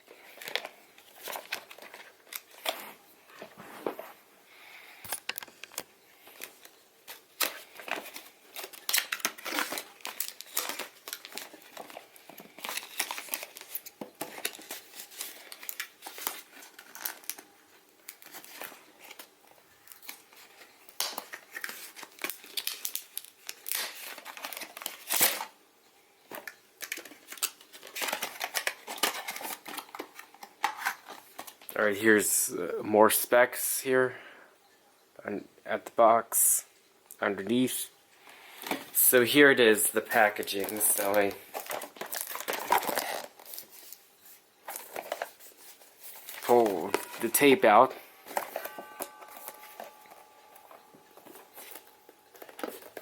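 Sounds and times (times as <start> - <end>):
packaging crinkling and tearing: 0.2 - 2.8, 5.1 - 25.5, 26.3 - 31.7, 38.6 - 53.0.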